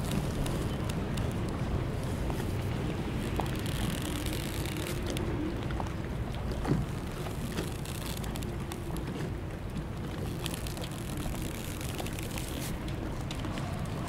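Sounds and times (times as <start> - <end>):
waves lapping against hulls: 0.0 - 14.0.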